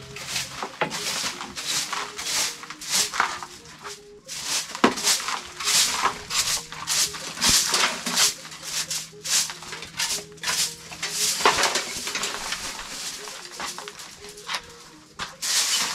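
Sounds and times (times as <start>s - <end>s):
broom sweeping earth floor: 0.0s - 15.9s.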